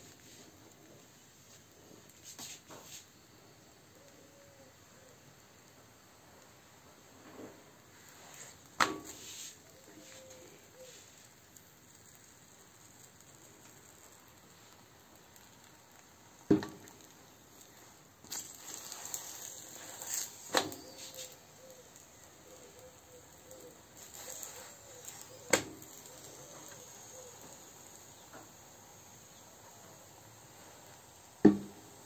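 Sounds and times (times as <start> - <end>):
roti hissing and crackling on pan: 0.0 - 32.0.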